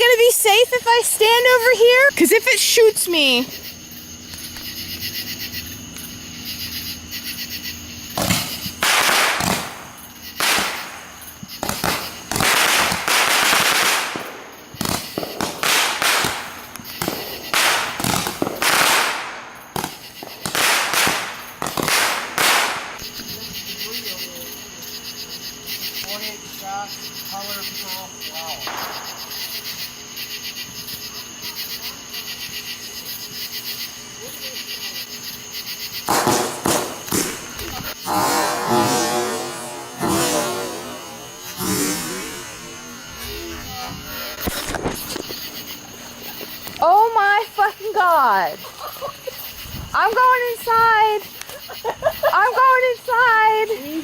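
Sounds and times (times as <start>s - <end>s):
fireworks bangs and crackling: 0.0s - 6.8s, 7.4s - 25.0s, 27.2s - 33.4s, 34.6s - 54.0s.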